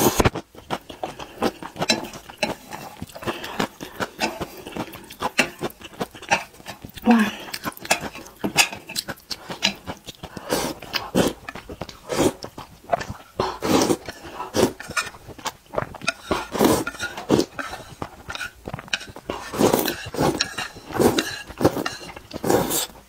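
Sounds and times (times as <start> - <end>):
person chewing: 0.0 - 23.0
person slurping noodles: 0.0 - 23.0.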